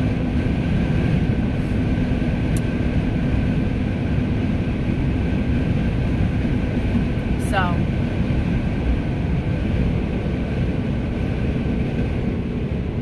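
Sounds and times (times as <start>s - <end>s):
road and engine noise in truck cab: 0.0s - 13.0s.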